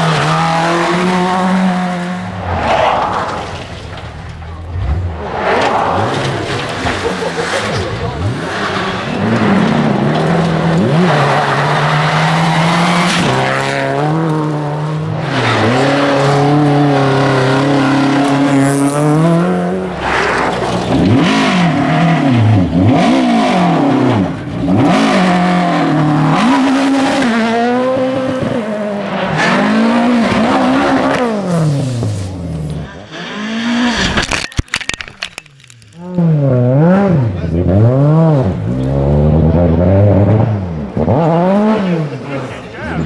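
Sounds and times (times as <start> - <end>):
rally car engines revving: 0.0 - 43.0.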